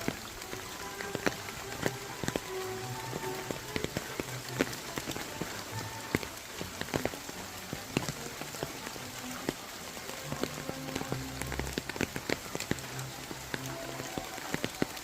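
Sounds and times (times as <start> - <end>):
rain hiss: 0.0 - 15.0
raindrops tapping on surfaces: 0.0 - 15.0.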